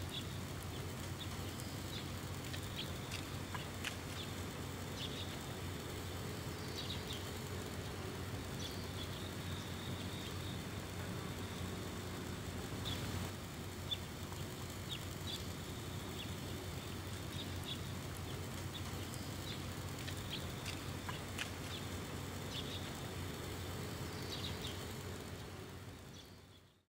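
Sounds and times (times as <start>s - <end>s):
low background rumble: 0.0s - 26.8s.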